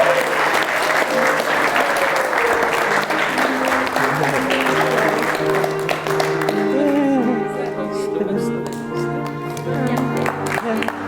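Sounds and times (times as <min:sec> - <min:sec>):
guests applauding: 0:00.0 - 0:11.0
music with held notes: 0:00.0 - 0:11.0.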